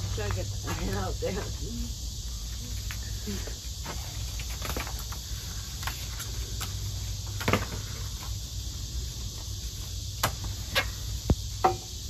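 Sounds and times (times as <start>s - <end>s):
steady insect buzz: 0.0s - 12.0s.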